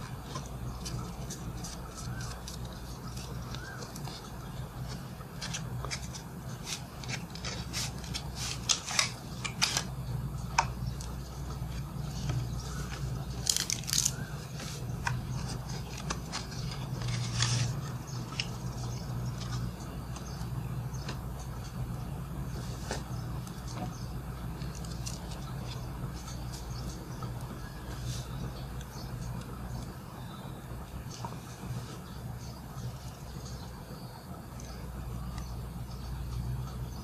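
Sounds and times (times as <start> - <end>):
steady low hum: 0.0 - 37.0
playing cards handled: 0.1 - 29.9.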